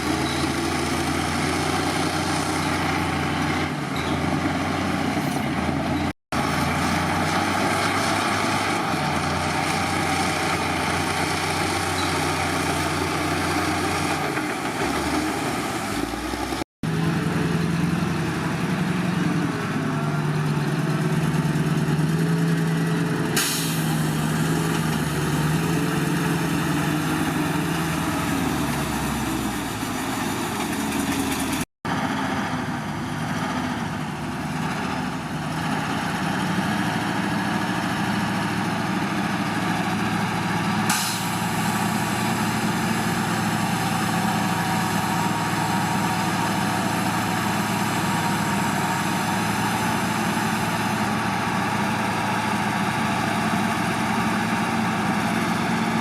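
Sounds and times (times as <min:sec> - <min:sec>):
heavy diesel machinery engines: 0:00.0 - 0:56.0.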